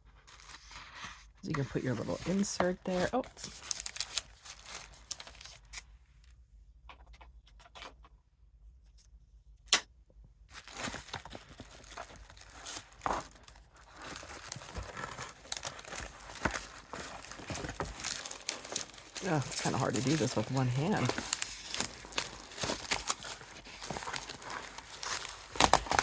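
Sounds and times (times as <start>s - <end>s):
packaging crinkling and rustling: 0.1s - 5.9s, 10.5s - 26.0s.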